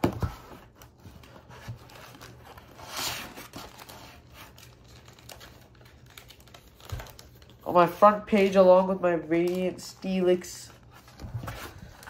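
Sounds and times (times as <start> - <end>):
cards rustling: 0.1 - 12.0.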